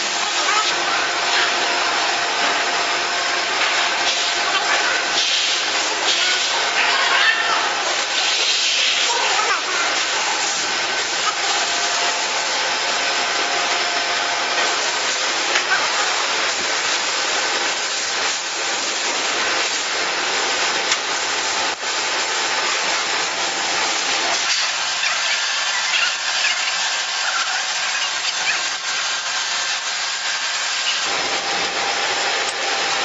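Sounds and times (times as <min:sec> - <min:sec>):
rushing workshop noise: 0:00.0 - 0:33.0.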